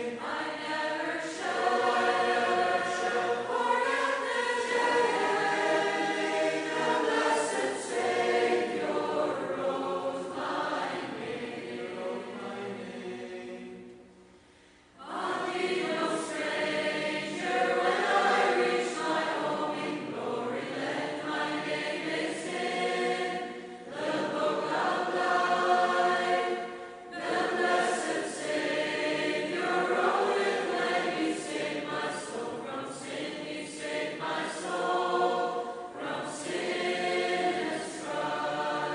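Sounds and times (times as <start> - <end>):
choir singing: 0.0 - 14.2, 15.0 - 38.9.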